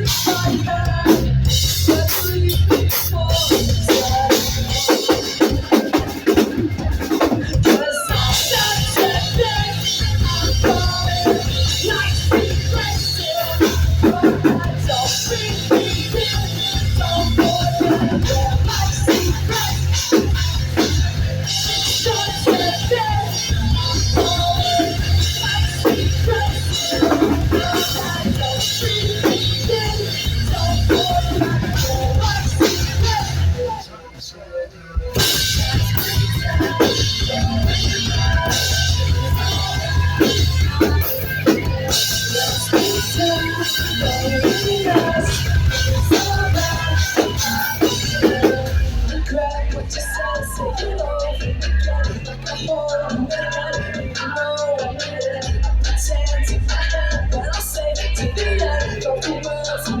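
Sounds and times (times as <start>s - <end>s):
bass: 0.0s - 34.2s, 34.9s - 60.0s
distorted guitars: 0.0s - 60.0s
drum kit: 0.0s - 60.0s.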